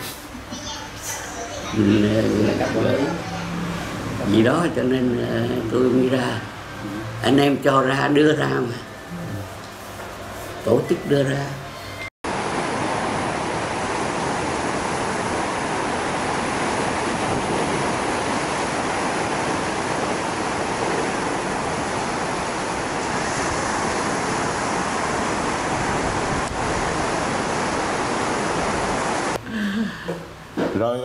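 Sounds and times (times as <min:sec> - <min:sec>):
sea surf breaking: 0:00.0 - 0:09.1, 0:10.2 - 0:29.4
wind: 0:00.0 - 0:31.0.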